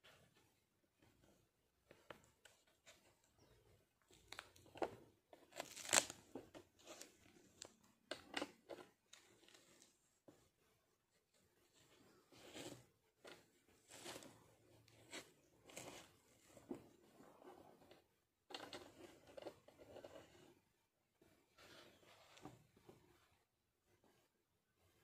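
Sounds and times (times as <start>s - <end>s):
cat rustling and scratching: 0.0s - 25.0s.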